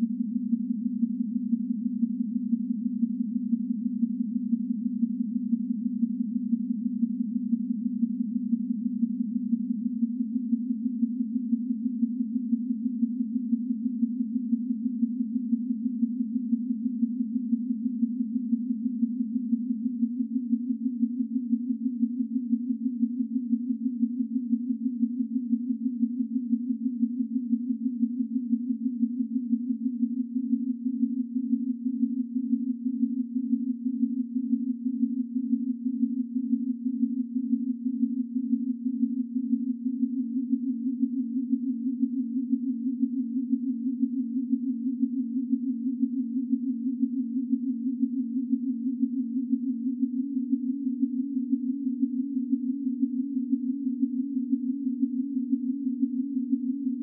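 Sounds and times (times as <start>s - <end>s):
pulsing sine tone hum: 0.0s - 57.0s.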